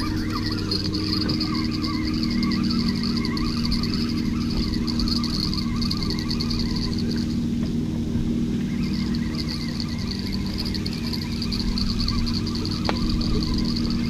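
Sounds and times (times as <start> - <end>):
insects chirring: 0.0 - 14.0
motor humming: 0.0 - 14.0.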